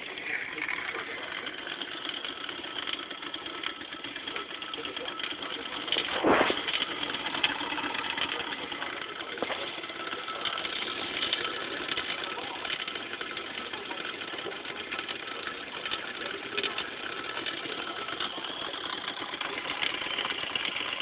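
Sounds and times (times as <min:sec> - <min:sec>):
toy steam engine clattering: 0:00.0 - 0:21.0.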